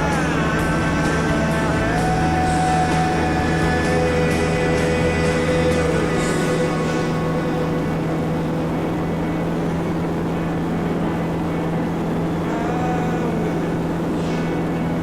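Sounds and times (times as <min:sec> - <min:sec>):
airplane engine drone: 0:00.0 - 0:15.0.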